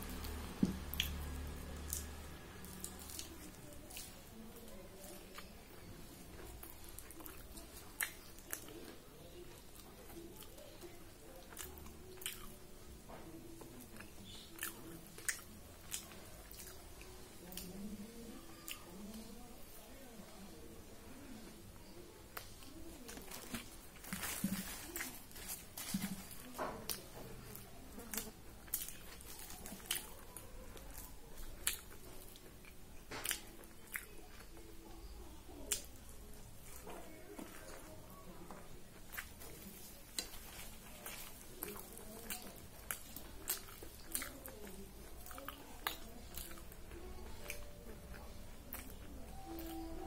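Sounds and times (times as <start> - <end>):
person chewing food: 0.0 - 19.4, 21.8 - 50.0.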